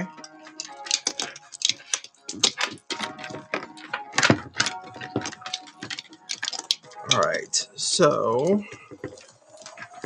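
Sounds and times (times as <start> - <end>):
string lights clicking and rattling: 0.0 - 10.0.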